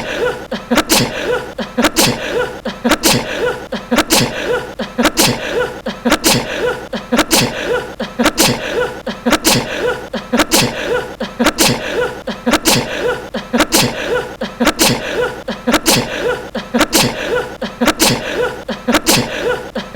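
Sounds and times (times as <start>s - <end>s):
man sneezing: 0.0s - 19.9s.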